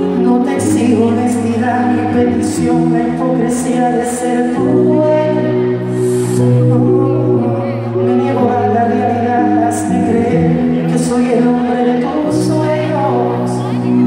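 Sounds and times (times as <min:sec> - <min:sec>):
live band playing chords: 0:00.0 - 0:14.0.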